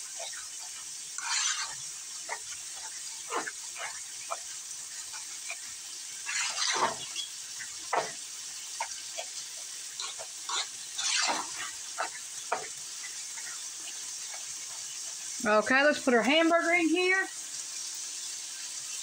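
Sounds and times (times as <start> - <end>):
utensil stirring sticky macaroni: 0.0 - 15.8.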